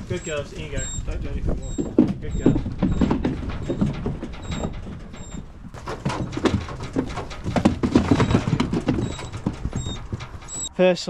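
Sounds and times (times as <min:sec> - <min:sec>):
sheep knocking in trailer: 0:00.0 - 0:10.7
tractor engine rumbling: 0:00.0 - 0:11.0.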